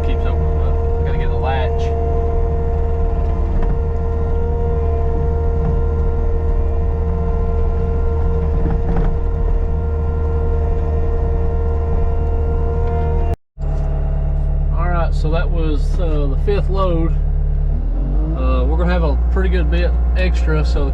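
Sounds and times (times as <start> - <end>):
diesel engine running: 0.0 - 20.9
high whine: 0.0 - 20.9.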